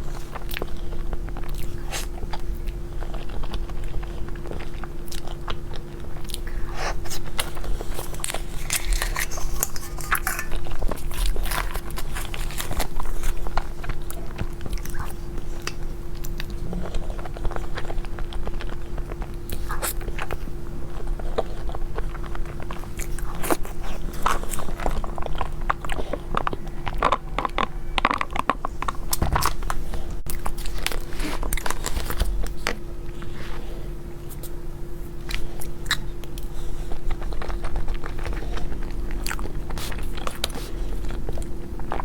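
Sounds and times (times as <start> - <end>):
person chewing crunchy food: 0.0 - 42.0.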